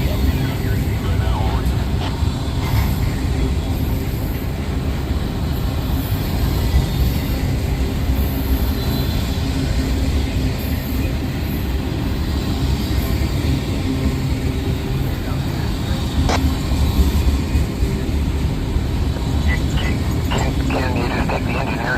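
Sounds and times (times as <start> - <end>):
freight train wheels rumbling: 0.0 - 21.9.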